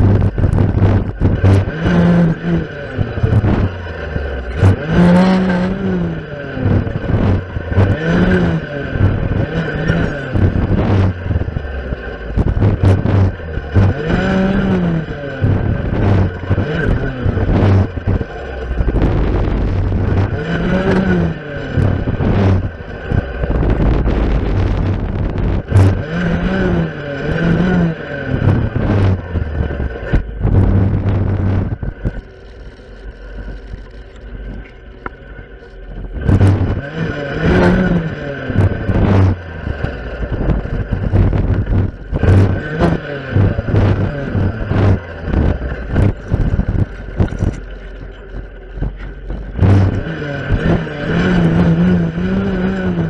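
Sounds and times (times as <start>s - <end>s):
clearing saw engine revving: 0.0s - 53.0s.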